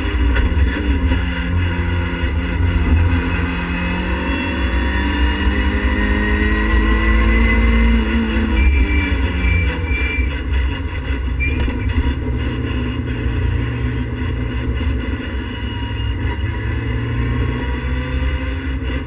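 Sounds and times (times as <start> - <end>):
race car engine droning: 0.0 - 19.0.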